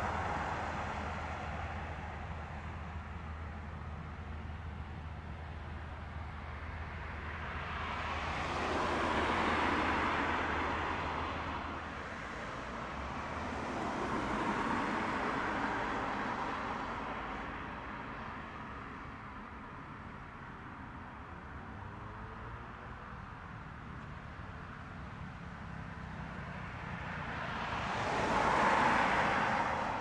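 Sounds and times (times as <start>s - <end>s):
vehicles rushing by: 0.0s - 18.6s, 21.7s - 30.0s.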